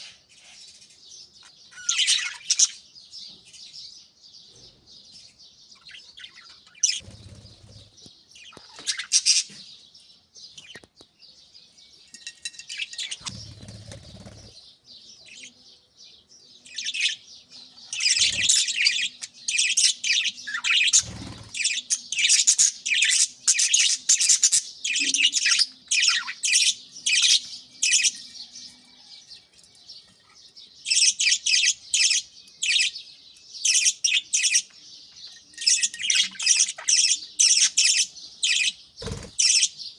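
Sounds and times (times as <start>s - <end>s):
budgerigars chattering and chirping: 0.0s - 2.8s, 5.7s - 9.9s, 12.6s - 15.6s, 16.6s - 39.9s.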